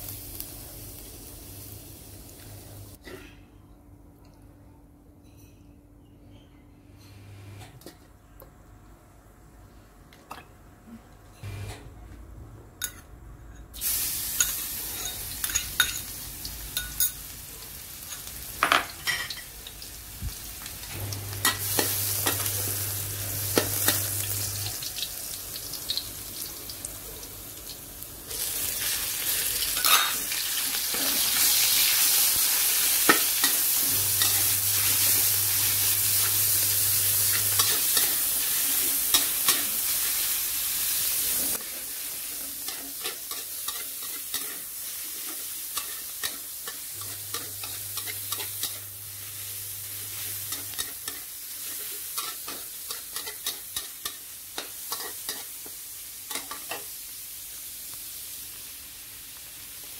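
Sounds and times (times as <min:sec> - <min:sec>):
meat sizzling in hot oil: 0:00.0 - 0:03.0, 0:13.8 - 0:59.9.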